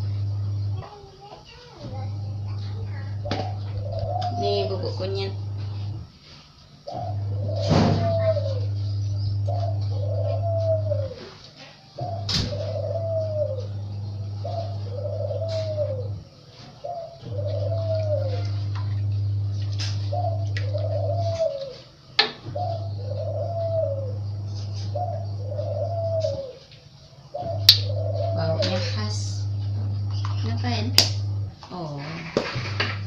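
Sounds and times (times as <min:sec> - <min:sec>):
bird cooing: 0:00.0 - 0:33.0
low steady hum: 0:00.0 - 0:33.0.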